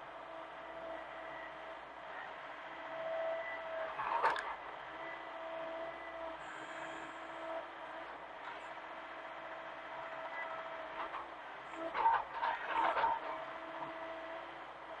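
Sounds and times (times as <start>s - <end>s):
excavator engine whining: 0.0s - 15.0s.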